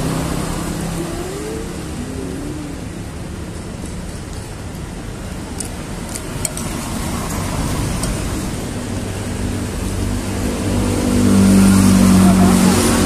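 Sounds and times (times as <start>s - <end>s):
passing road traffic: 0.0s - 13.0s
vehicle engine hum: 0.0s - 13.0s.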